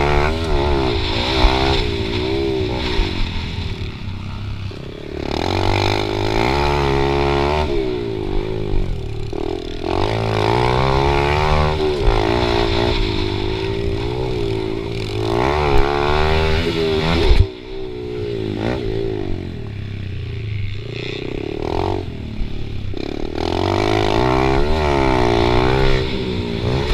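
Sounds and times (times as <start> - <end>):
motorbike engine revving: 0.0 - 26.9.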